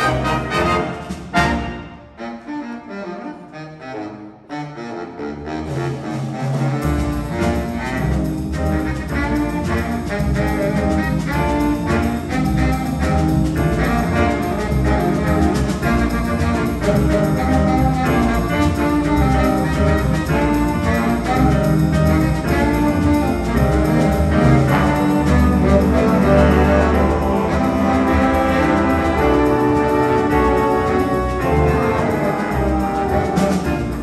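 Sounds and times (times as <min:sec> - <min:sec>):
jazz big band playing: 0:00.0 - 0:34.0.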